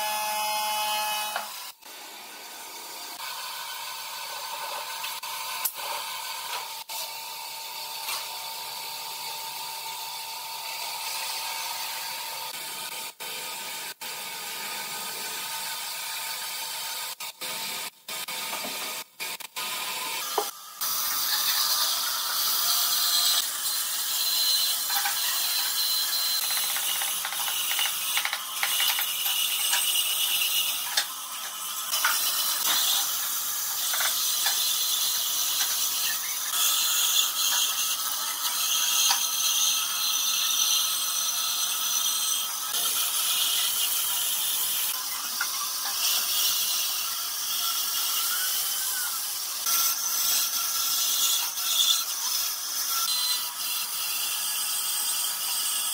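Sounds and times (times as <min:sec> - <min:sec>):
bandsaw cutting wood: 0:00.0 - 0:07.2, 0:07.8 - 0:55.9.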